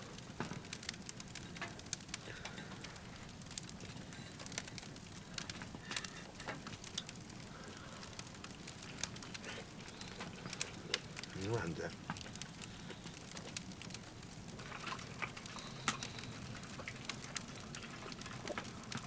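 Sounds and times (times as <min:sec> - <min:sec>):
firewood crackling and popping: 0:00.0 - 0:19.0
low hum of fire: 0:00.0 - 0:19.0.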